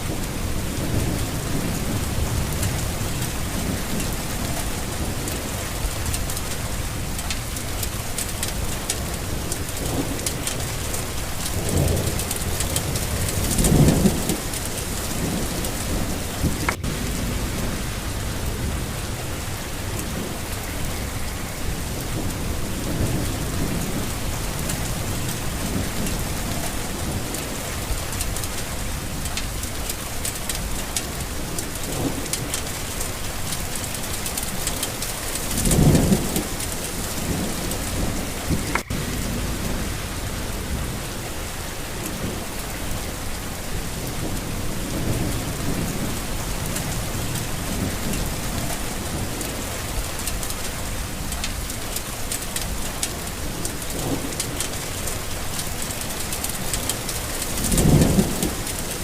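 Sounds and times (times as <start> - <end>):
steady rain: 0.0 - 59.0
thunder rumbling: 0.0 - 59.0.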